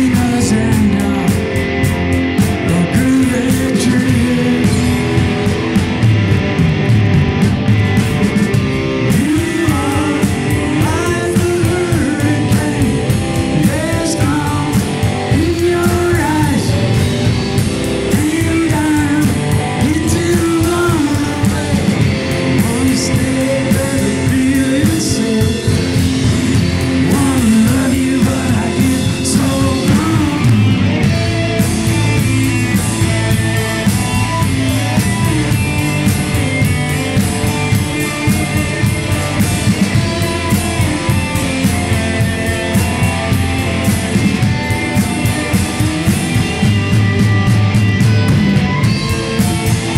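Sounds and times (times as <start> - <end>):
bending lead melody: 0.0 - 49.9
rock band playing: 0.0 - 49.9.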